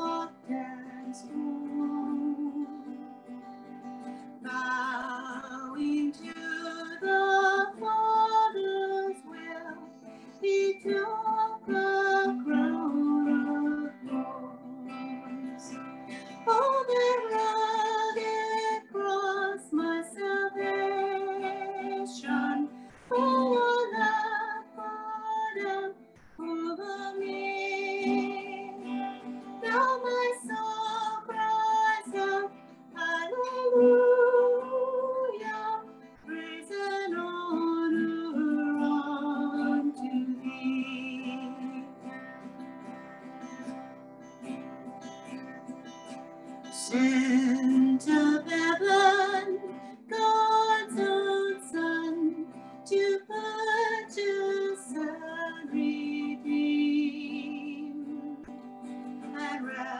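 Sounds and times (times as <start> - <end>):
woman singing a hymn: 0.0 - 3.0, 4.4 - 42.1, 46.8 - 58.5, 59.3 - 59.9.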